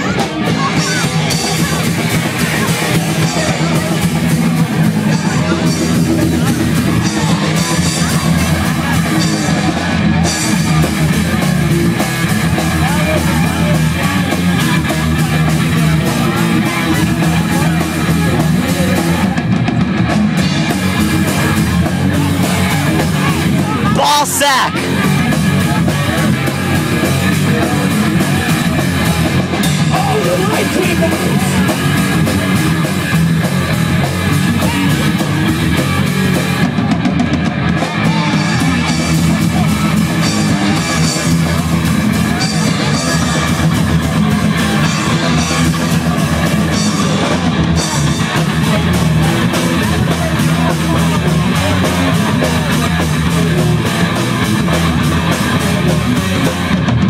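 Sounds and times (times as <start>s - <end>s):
distorted electric guitar: 0.0s - 57.0s
drum kit pounding: 0.0s - 57.0s
punk band playing live: 0.0s - 57.0s.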